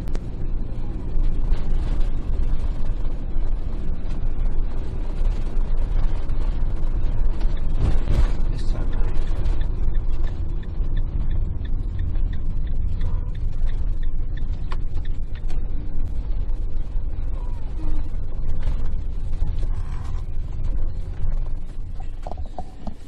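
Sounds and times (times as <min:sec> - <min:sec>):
engine and road rumble: 0:00.0 - 0:23.0
interior rattling clicks and creaks: 0:00.0 - 0:23.0.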